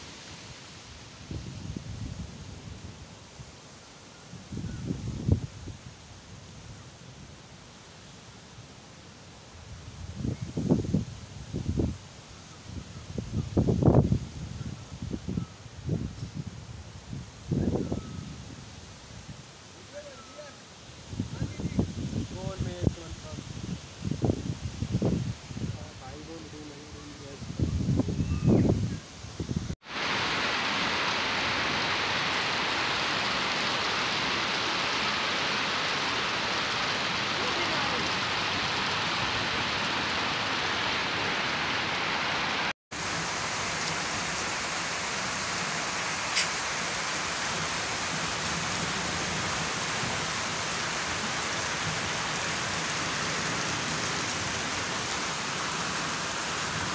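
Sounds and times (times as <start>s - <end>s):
heavy rain on foliage: 0.0s - 12.8s, 13.6s - 28.7s, 29.4s - 56.9s.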